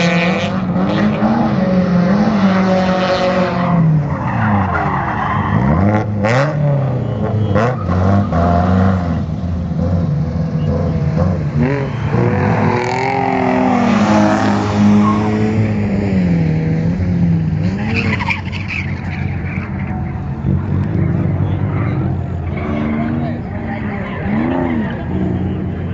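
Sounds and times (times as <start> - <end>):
tires squealing on asphalt: 0.0 - 16.4, 17.6 - 25.9
car engines revving: 0.0 - 25.9.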